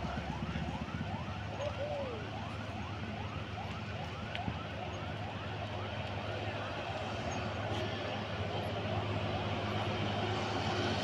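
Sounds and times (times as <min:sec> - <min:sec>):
truck engines running: 0:00.0 - 0:11.0.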